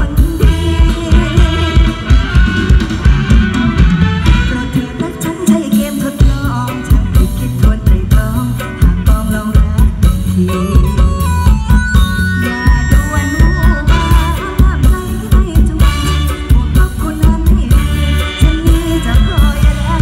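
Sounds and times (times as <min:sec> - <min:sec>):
live band music over loudspeakers: 0:00.0 - 0:20.0.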